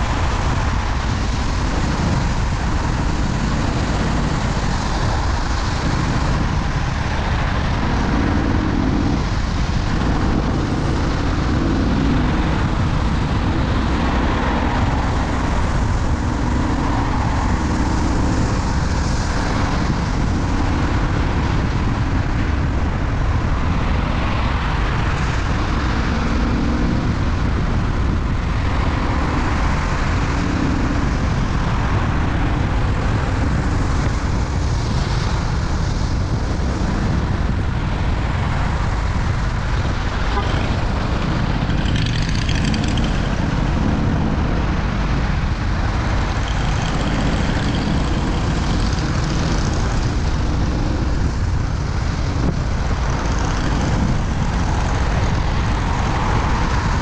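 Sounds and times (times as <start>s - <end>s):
road vehicle rumble: 0.0s - 57.0s.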